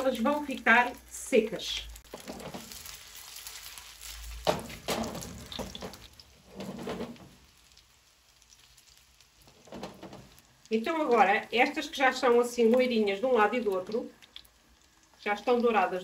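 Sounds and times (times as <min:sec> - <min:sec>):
meatballs sizzling in oil: 0:00.0 - 0:16.0.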